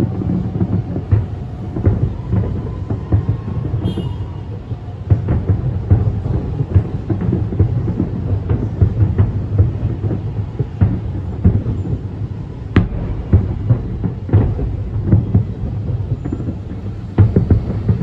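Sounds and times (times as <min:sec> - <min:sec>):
fireworks booming: 0:00.0 - 0:18.0
fireworks sharp cracks: 0:00.0 - 0:18.0.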